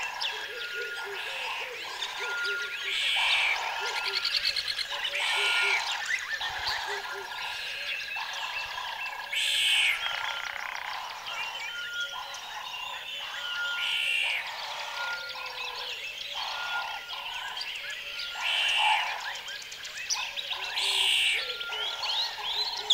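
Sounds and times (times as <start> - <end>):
birds chirping: 0.0 - 22.9
frogs croaking: 0.0 - 22.9.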